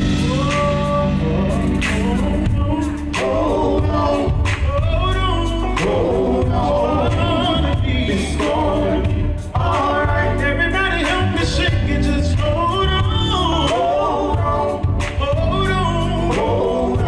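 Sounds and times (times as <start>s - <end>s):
live band playing: 0.0s - 17.0s
vocal quartet singing in harmony: 0.0s - 17.0s.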